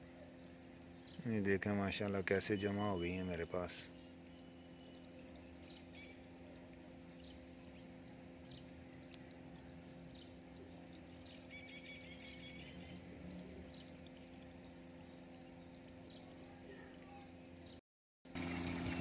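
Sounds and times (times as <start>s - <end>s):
steady low hum: 0.0s - 19.0s
small water splashes: 3.0s - 19.0s.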